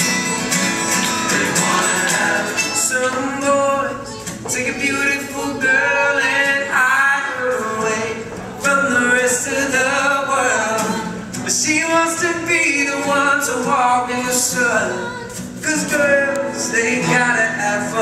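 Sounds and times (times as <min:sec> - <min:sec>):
acoustic guitars strummed: 0:00.0 - 0:18.0
mandolin strummed: 0:00.0 - 0:18.0
male voices singing in harmony: 0:01.3 - 0:18.0.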